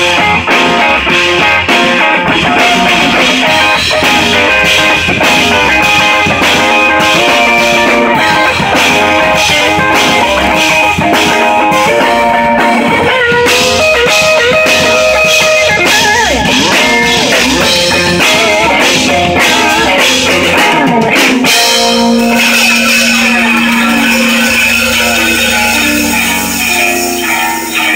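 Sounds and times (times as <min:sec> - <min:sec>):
drum kit steady beat: 0:00.0 - 0:27.9
loud electric guitar: 0:00.0 - 0:27.9.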